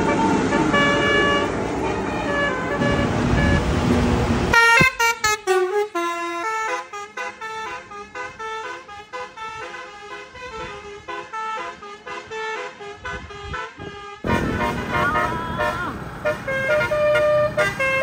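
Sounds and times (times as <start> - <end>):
musical air horn playing tune: 0.0 - 3.7, 4.5 - 18.0
bus engine and road noise: 0.0 - 18.0.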